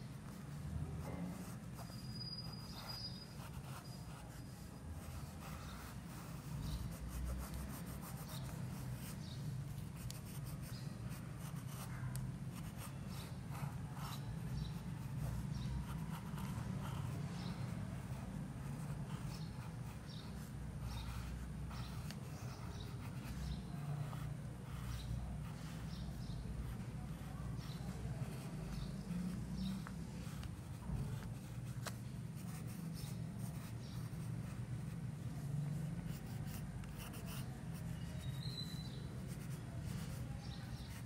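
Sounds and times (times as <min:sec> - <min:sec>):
pencil scratching on paper: 0:00.2 - 0:41.0.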